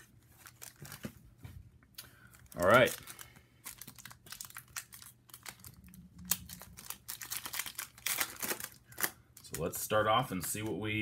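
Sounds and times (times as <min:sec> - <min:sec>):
card pack wrapper crinkling: 0:00.1 - 0:01.2, 0:02.2 - 0:10.9.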